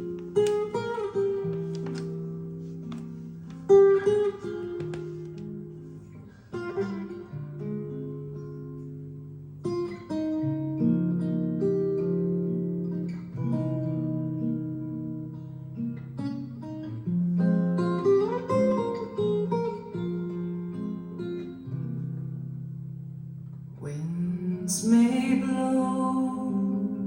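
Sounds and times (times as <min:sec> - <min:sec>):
jazz acoustic guitar over loudspeakers: 0:00.0 - 0:27.0.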